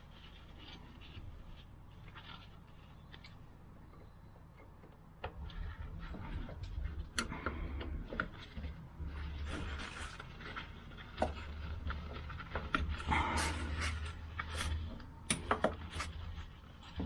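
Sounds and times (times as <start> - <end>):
low rumble of handling: 0.0 - 17.0.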